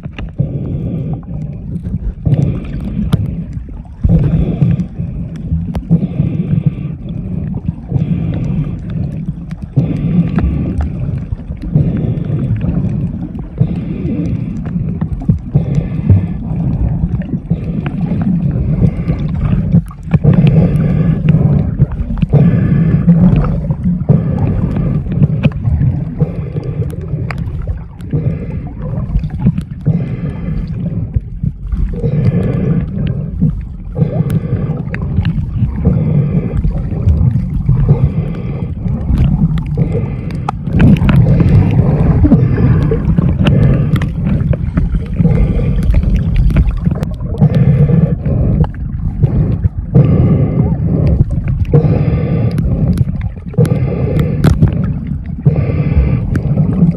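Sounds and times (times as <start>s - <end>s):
muffled underwater rumble: 0.0s - 56.9s
water swishing: 0.0s - 56.9s.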